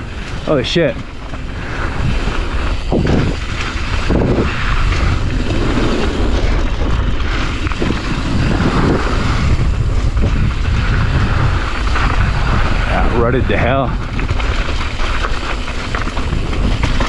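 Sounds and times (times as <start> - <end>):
bike knocking on bumps: 0.0 - 17.0
bike tyres rumbling on dirt: 0.0 - 17.0
wind buffeting microphone: 0.0 - 17.0.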